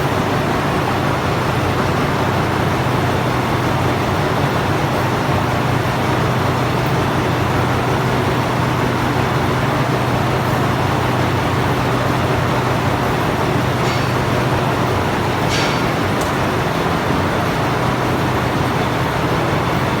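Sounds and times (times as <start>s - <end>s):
lathe machining: 0.0s - 20.0s.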